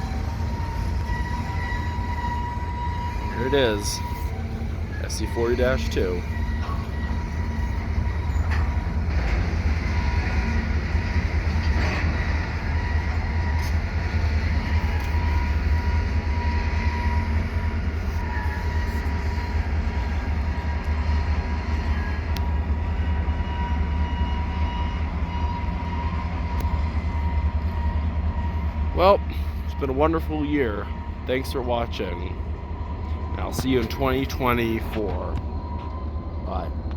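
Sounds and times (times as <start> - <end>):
diesel locomotive rumble: 0.0 - 36.9.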